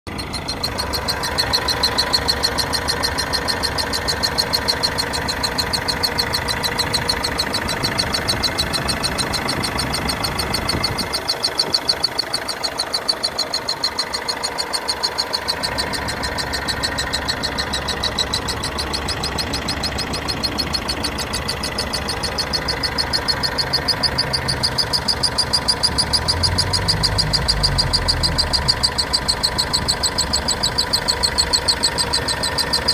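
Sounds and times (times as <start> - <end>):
diesel engine idling: 0.1 - 32.9
fast even ticking: 0.1 - 32.9.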